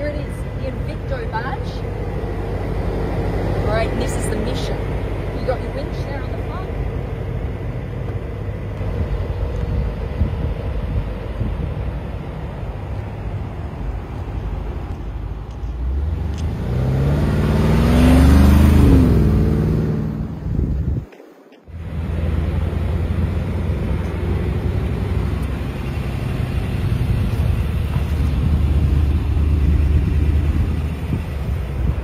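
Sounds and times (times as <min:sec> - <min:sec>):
vehicle engine rumbling and revving: 0:00.0 - 0:32.0.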